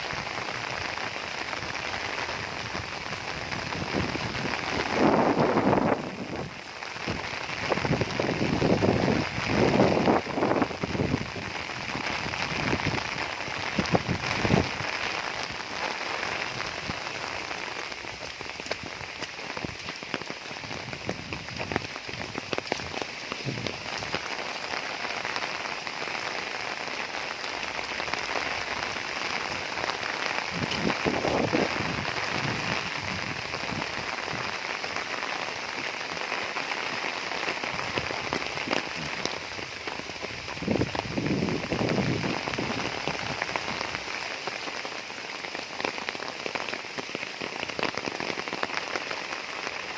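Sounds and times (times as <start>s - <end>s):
heavy rain on a roof: 0.0s - 49.9s.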